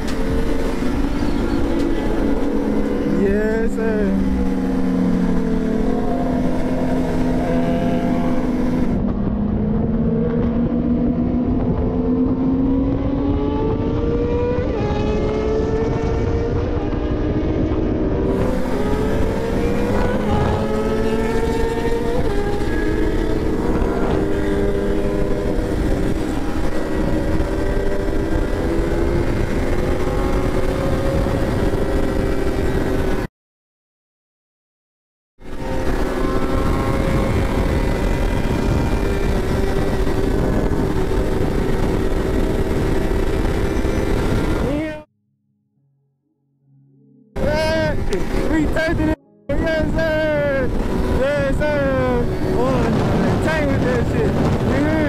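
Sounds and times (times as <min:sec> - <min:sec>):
motorcycle engine revving: 0:00.0 - 0:33.3, 0:35.4 - 0:45.1, 0:47.4 - 0:55.0
road and wind noise: 0:00.0 - 0:33.3, 0:35.4 - 0:45.1, 0:47.3 - 0:55.0.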